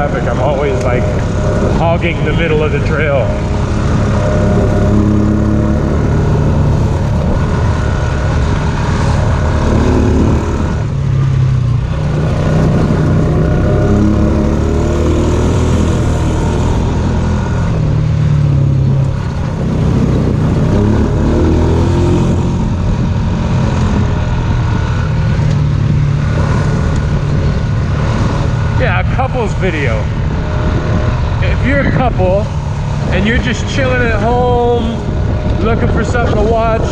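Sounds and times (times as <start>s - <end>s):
off-road motorbike engine revving: 0.0s - 36.9s.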